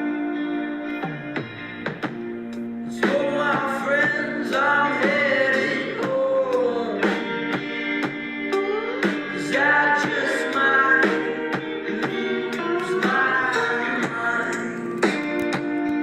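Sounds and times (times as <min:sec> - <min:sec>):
guitar: 0:00.0 - 0:16.0
person singing: 0:02.8 - 0:16.0.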